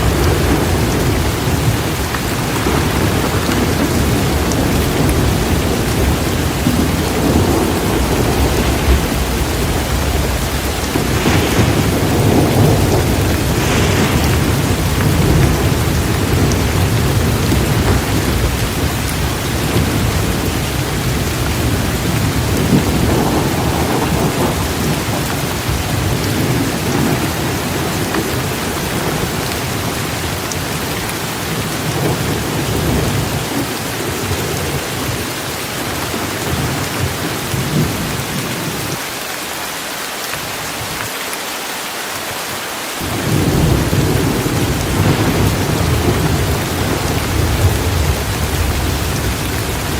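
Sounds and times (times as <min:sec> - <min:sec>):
low thunder rumbling: 0:00.0 - 0:39.0, 0:43.0 - 0:49.9
heavy torrential rain: 0:00.0 - 0:49.9.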